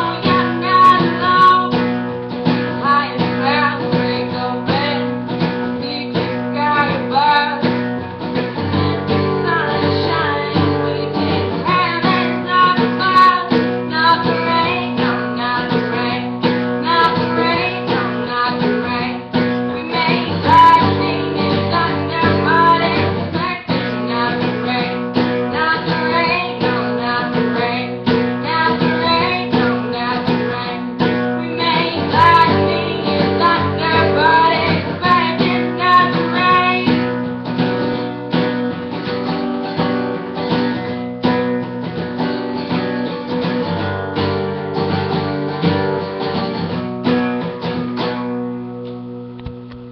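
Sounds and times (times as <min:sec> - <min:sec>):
woman singing folk song: 0:00.0 - 0:48.5
acoustic guitar strumming: 0:00.0 - 0:49.9.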